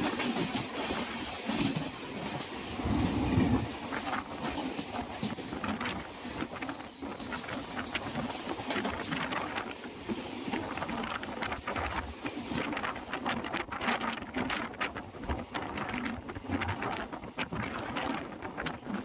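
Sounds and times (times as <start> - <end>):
train rattling and clattering: 0.0 - 19.0
train rushing noise: 0.0 - 19.0.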